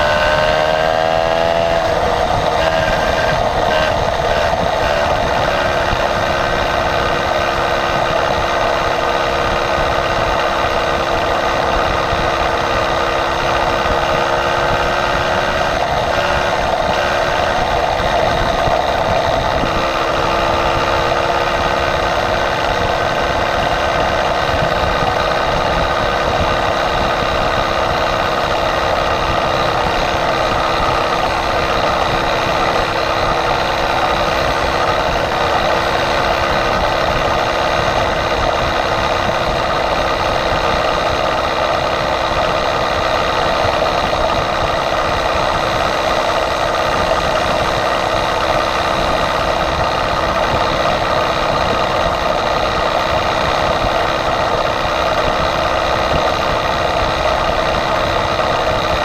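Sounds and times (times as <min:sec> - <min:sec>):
small motorbike engine running: 0:00.0 - 0:59.0.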